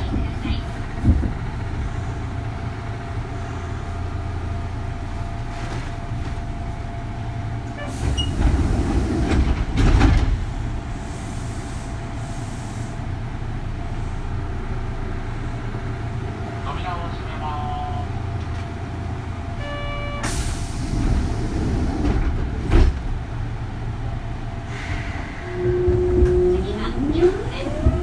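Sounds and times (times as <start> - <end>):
train rattling: 0.0 - 28.0
train wheels and motors rumbling: 0.0 - 28.0.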